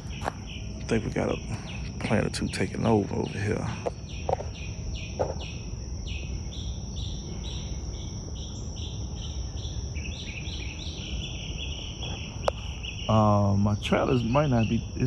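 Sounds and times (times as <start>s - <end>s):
high-pitched insect drone: 0.0s - 15.0s
insects chirping: 0.0s - 15.0s.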